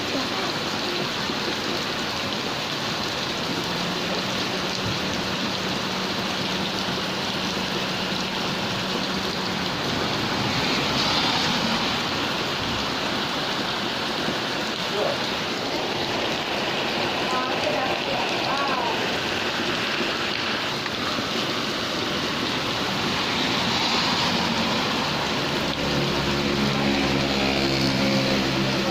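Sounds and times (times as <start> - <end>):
heavy rain on a car: 0.0 - 28.9.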